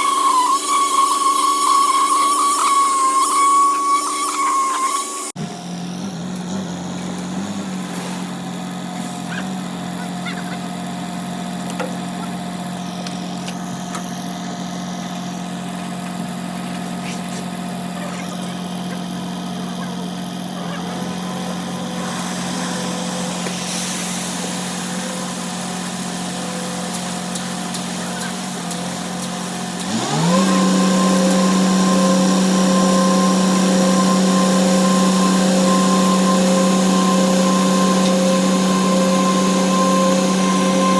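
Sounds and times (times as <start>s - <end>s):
machine engine running and revving: 0.0s - 40.9s.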